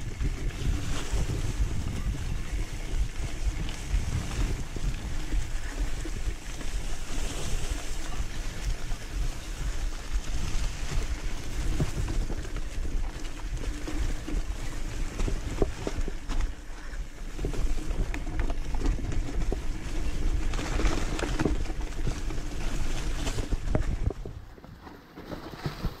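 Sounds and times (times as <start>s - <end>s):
motorcycle running: 0.0s - 24.6s
wind buffeting microphone: 0.0s - 26.0s.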